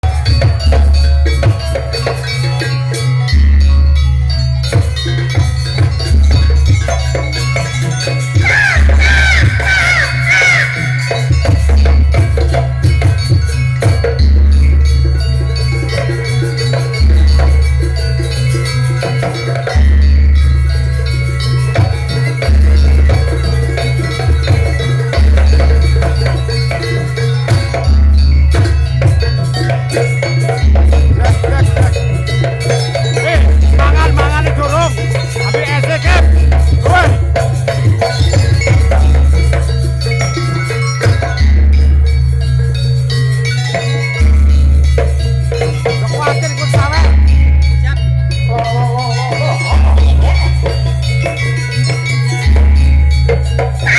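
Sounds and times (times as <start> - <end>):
drums and metal percussion: 0.0 - 53.9
melody: 0.0 - 53.9
percussion ensemble music: 0.0 - 53.9.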